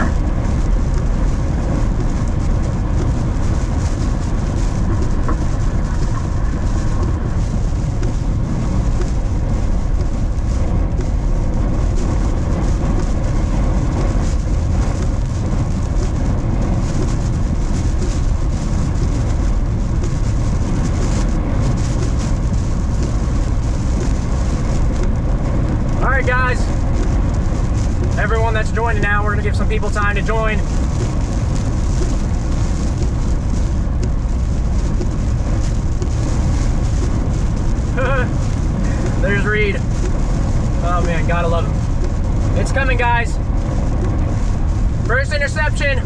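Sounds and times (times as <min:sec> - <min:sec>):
road and engine rumble: 0:00.0 - 0:46.0.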